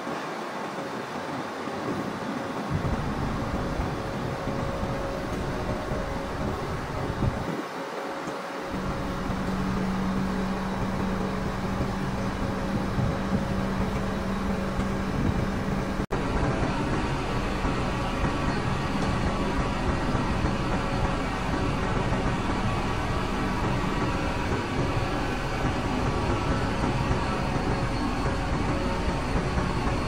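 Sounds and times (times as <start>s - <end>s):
crane engine and hydraulics drone: 0.0s - 30.0s.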